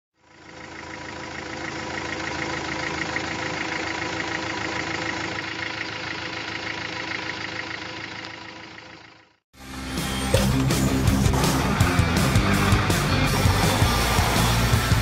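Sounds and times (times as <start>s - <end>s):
engine idling: 0.1s - 15.0s.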